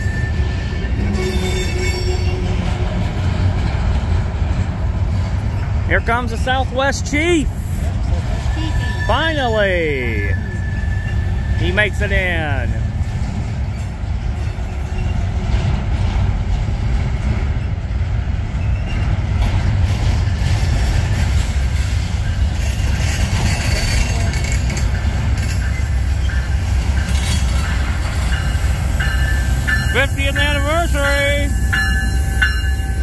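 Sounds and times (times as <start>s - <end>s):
diesel locomotive rumble: 0.0s - 33.0s.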